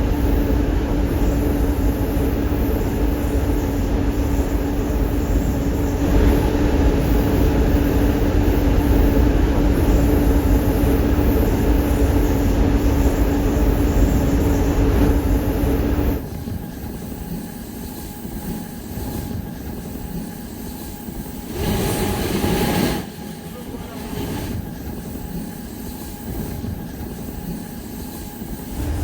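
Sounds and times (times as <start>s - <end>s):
constant low hum: 0.0s - 29.0s
train rumbling on the line: 0.0s - 29.0s.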